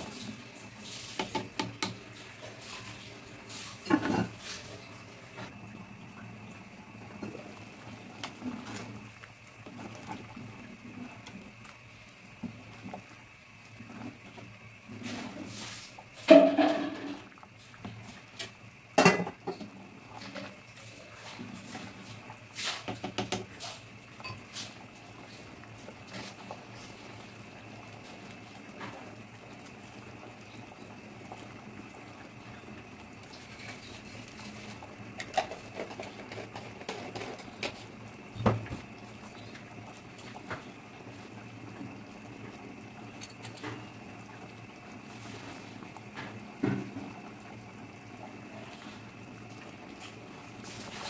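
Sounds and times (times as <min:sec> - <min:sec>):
porridge bubbling in a pot: 0:00.0 - 0:51.0.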